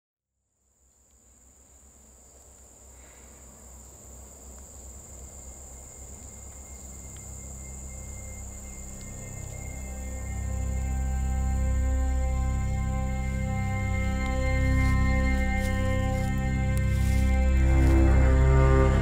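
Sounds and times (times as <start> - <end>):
insects chirring: 0.5 - 19.0.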